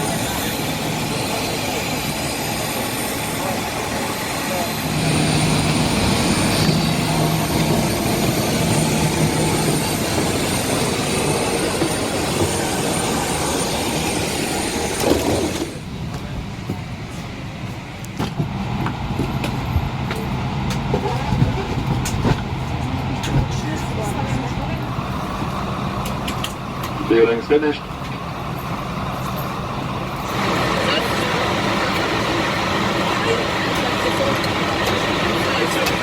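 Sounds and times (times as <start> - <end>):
aircraft engine whine: 0.0 - 36.0.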